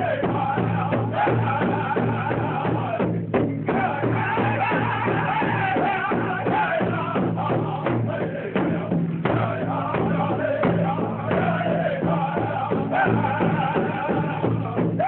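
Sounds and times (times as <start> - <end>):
men chanting: 0.0 - 15.0
steady drumbeat: 0.0 - 15.0.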